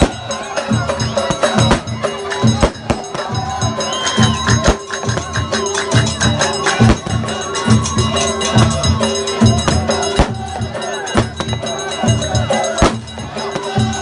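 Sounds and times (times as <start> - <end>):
loud sharp drum strikes: 0.0 - 7.4, 8.0 - 14.0
drums beating rhythm: 0.0 - 14.0.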